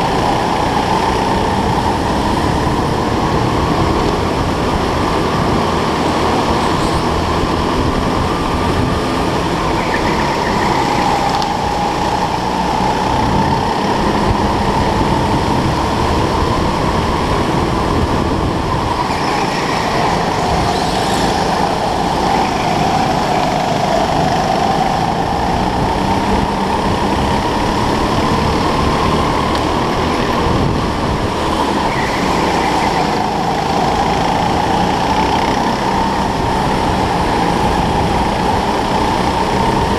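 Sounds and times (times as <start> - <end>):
go-kart motor whining: 0.0 - 39.9.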